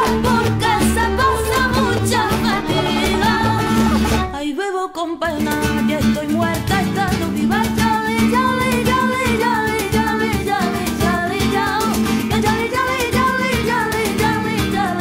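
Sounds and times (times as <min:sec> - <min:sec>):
song with guitar and singing: 0:00.0 - 0:15.0.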